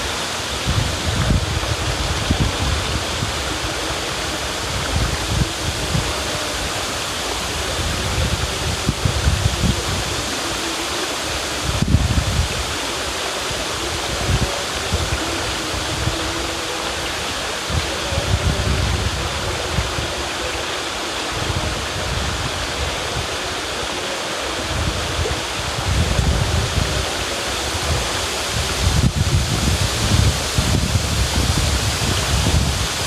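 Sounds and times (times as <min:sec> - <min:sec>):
river water rushing: 0:00.0 - 0:33.0.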